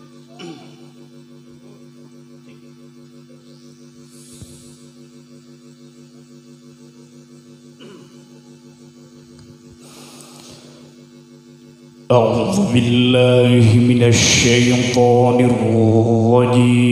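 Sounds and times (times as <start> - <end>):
electrical mains hum: 0.0 - 16.9.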